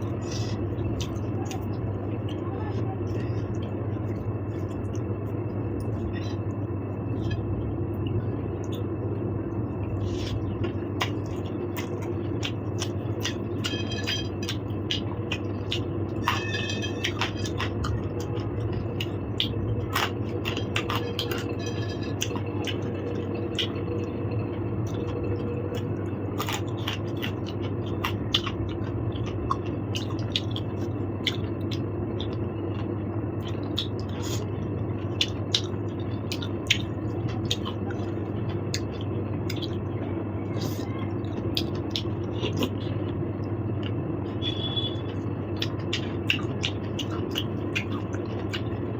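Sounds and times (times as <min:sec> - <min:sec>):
person chewing: 0:00.0 - 0:02.4, 0:03.2 - 0:48.9
low background hum: 0:00.0 - 0:48.9.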